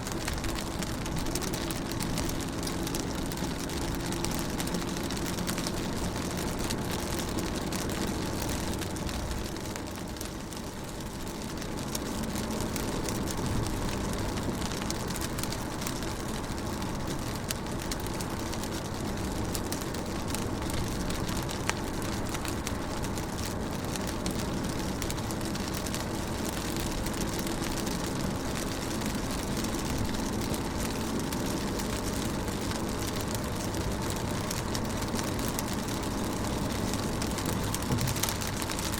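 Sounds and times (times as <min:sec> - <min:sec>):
rain on a window pane: 0:00.0 - 0:38.9.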